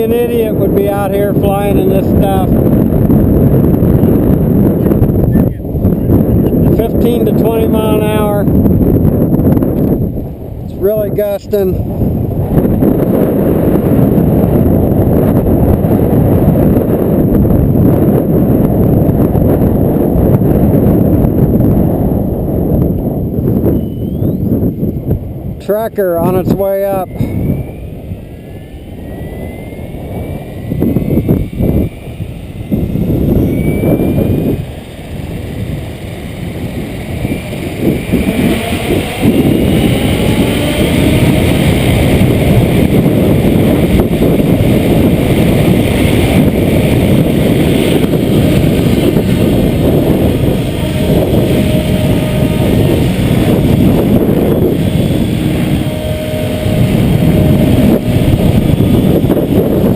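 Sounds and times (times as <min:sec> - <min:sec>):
model helicopter whine: 0:00.0 - 0:59.9
wind buffeting microphone: 0:00.0 - 0:59.9.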